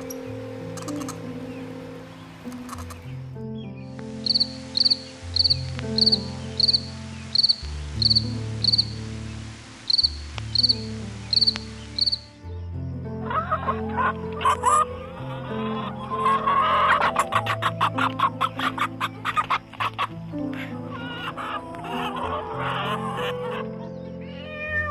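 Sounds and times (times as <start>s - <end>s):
insect chirping in high trills: 0.0s - 3.4s, 4.1s - 12.3s, 13.3s - 24.8s
music with sustained low notes: 0.0s - 24.9s.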